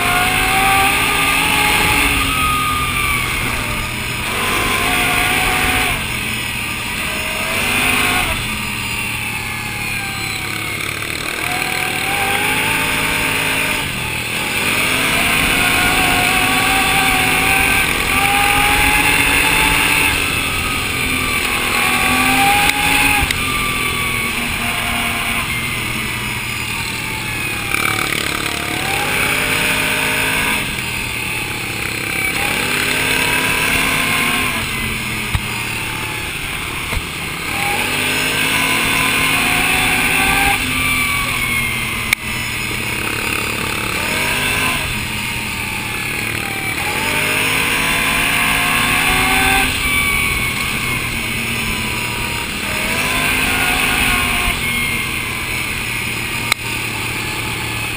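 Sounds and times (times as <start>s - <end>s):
atv engine revving: 0.0s - 57.9s.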